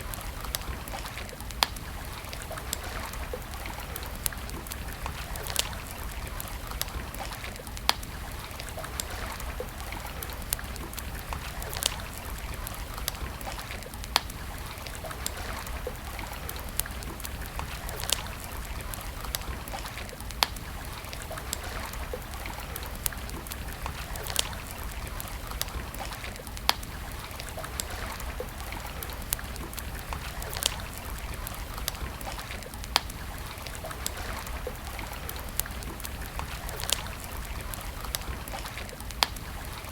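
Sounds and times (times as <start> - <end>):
campfire crackling and popping: 0.0 - 39.9
steady hiss and low rumble: 0.0 - 39.9.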